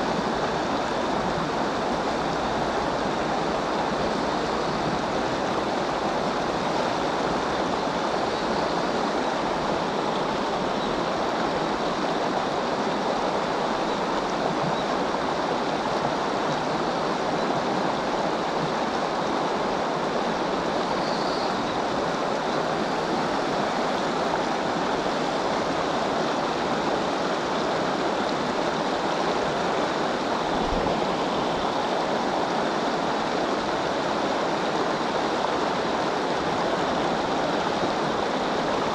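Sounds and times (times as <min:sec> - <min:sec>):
river water rushing through rapids: 0:00.0 - 0:38.9.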